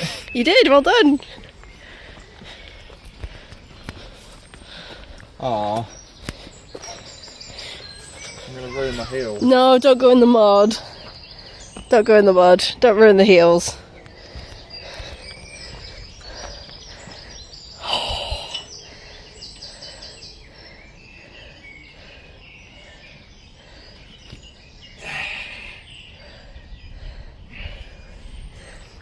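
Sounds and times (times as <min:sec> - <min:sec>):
birds chirping faintly: 0:00.0 - 0:29.0.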